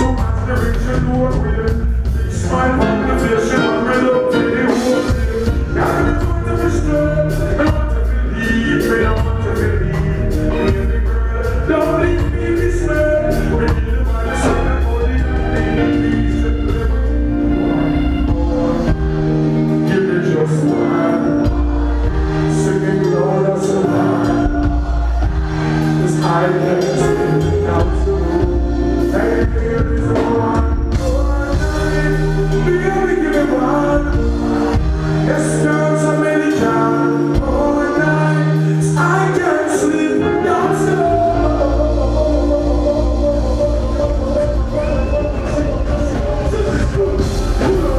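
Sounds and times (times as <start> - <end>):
bass line: 0.0 - 47.9
drums: 0.0 - 47.9
person singing: 0.0 - 47.9
reggae band playing: 0.0 - 47.9.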